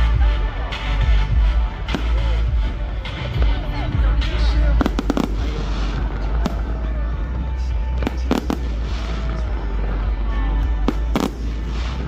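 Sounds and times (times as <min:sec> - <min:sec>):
fireworks bangs: 0:00.0 - 0:12.0
music: 0:00.0 - 0:12.0.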